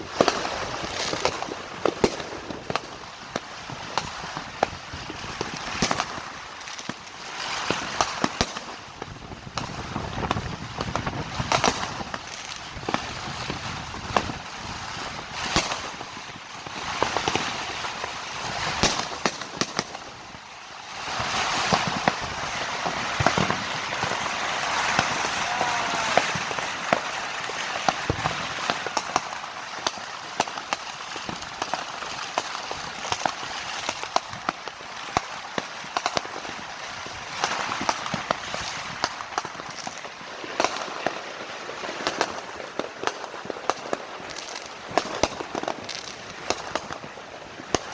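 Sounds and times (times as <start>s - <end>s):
firecracker pops and bangs: 0.0s - 47.9s
fireworks crackling: 0.0s - 47.9s.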